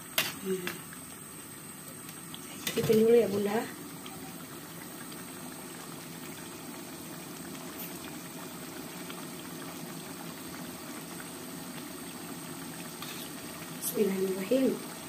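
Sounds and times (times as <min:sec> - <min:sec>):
sauce bubbling in a wok: 0:00.0 - 0:15.0.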